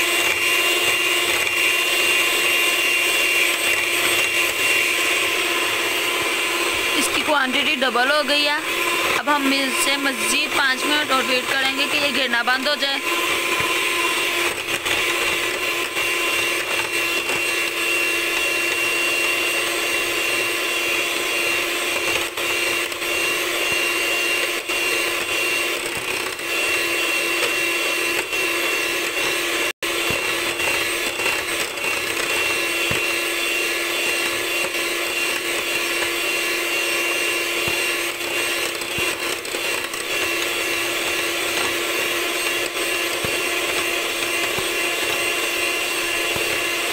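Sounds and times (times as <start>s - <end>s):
electric hand mixer whipping cream: 0.0s - 46.9s.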